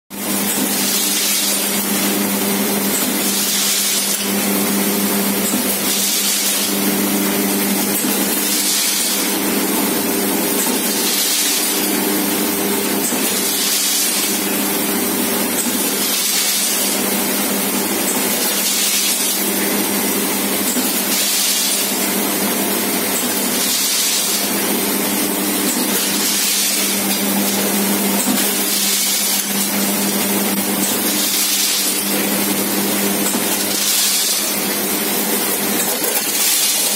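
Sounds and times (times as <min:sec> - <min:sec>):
packing machine hum: 0:00.1 - 0:36.9.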